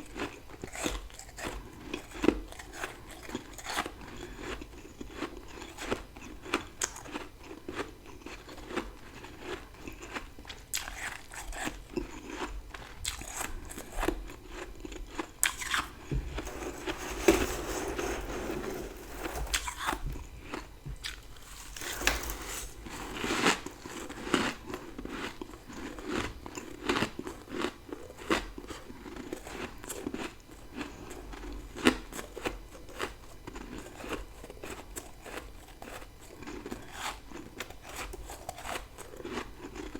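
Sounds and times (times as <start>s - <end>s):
crunching and chewing frost: 0.0s - 17.4s, 19.1s - 39.9s.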